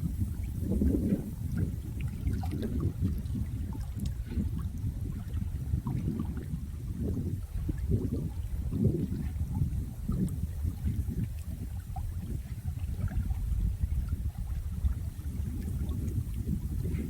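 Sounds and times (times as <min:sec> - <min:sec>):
water sloshing and gurgling: 0:00.0 - 0:17.0.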